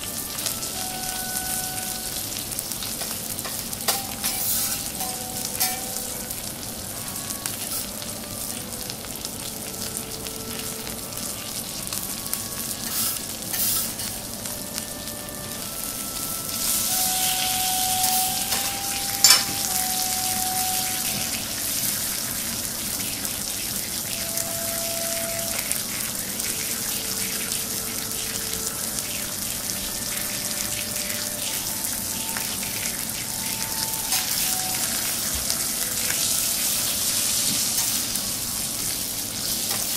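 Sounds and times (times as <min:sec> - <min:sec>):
steak sizzling on a griddle: 0:00.0 - 0:39.9.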